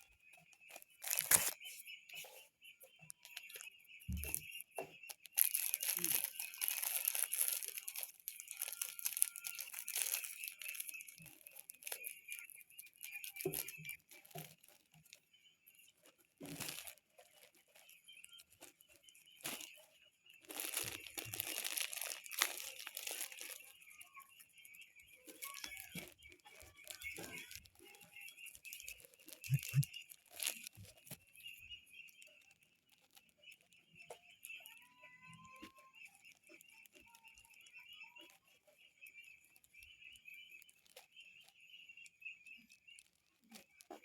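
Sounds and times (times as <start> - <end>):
rustling and crinkling: 0.0 - 44.0.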